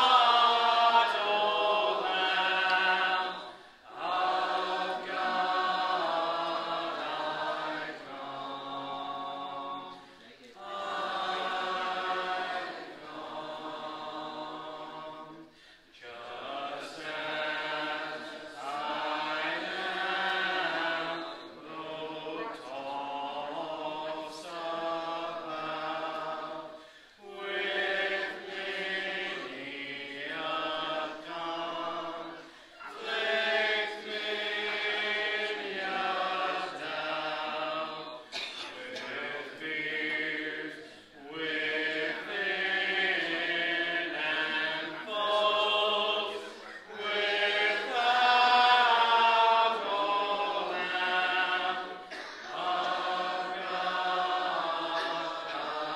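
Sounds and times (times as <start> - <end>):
congregation singing a hymn: 0.0 - 55.9.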